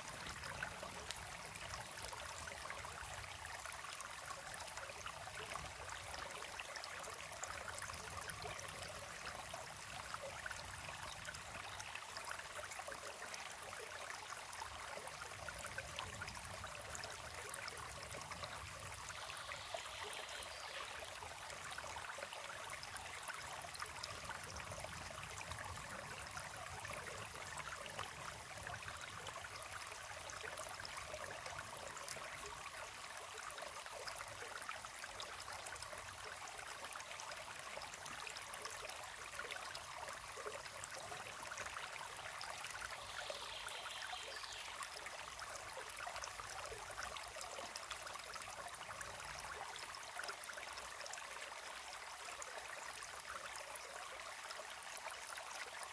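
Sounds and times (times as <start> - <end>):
brook trickling and splashing: 0.0 - 55.9.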